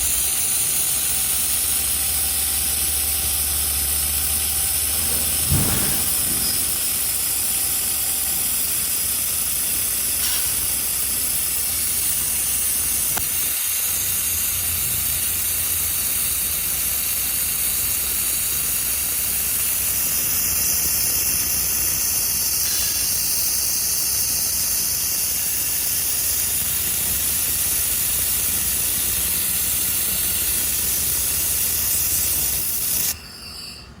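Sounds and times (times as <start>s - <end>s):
laser welding machine hiss: 0.0s - 33.8s.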